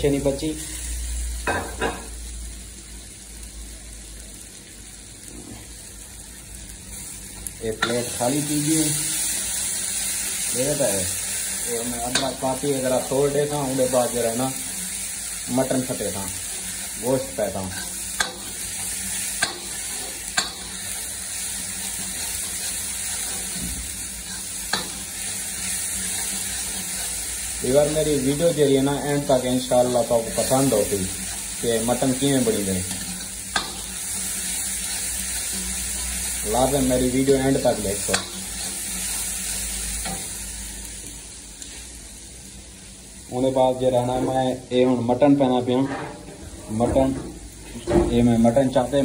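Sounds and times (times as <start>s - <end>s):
food sizzling in oil: 0.0s - 49.0s.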